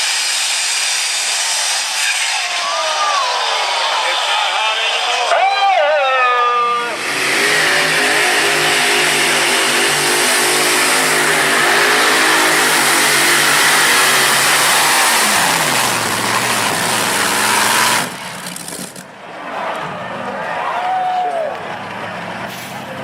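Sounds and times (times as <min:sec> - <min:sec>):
tractor-pulling engine roaring: 0:00.0 - 0:19.8, 0:21.5 - 0:23.0.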